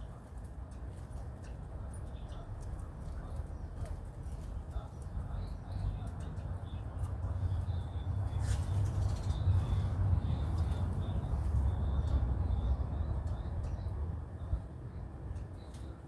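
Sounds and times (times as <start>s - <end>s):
small birds chirping: 2.1s - 16.0s.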